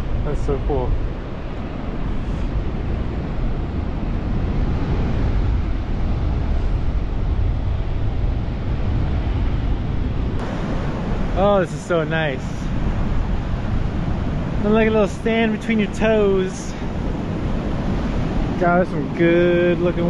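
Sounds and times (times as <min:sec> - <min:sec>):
waves breaking on a sandy beach: 0:00.0 - 0:20.0
wind rumbling on microphone: 0:00.0 - 0:20.0.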